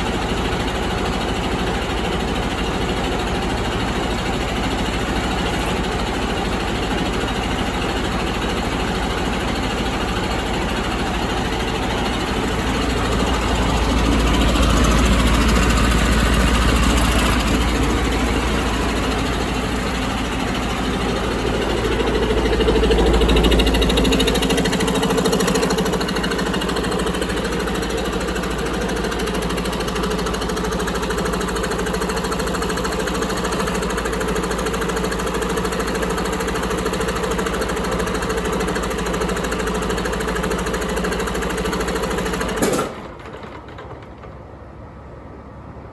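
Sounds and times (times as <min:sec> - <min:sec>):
diesel engine clattering: 0:00.0 - 0:45.9.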